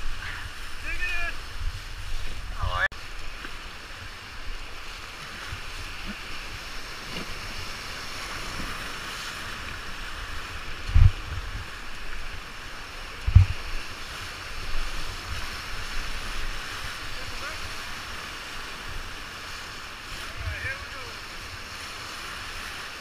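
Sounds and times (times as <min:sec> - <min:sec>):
whitewater rapids rushing: 0:00.0 - 0:23.0.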